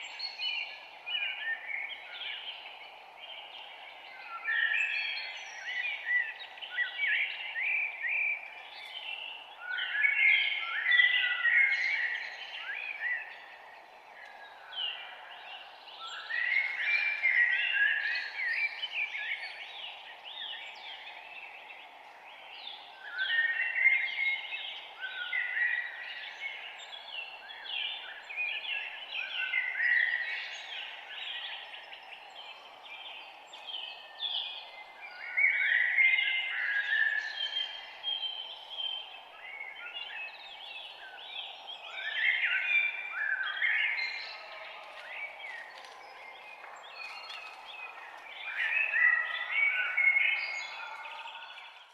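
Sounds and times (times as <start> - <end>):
birds singing and chirping: 0.0 - 51.9.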